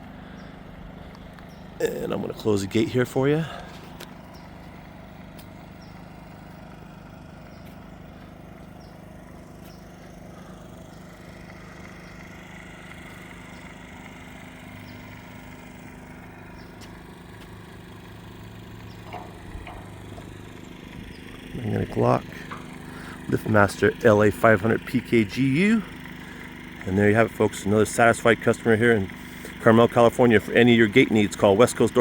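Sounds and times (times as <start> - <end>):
gate motor drone: 0.0 - 32.0.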